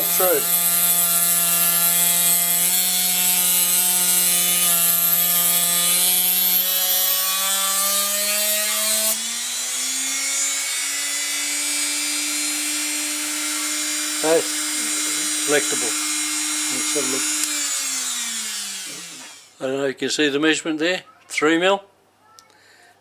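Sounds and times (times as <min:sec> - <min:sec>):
sanding drum grinding wood: 0:00.0 - 0:19.5
rotary tool motor whine: 0:00.0 - 0:19.6.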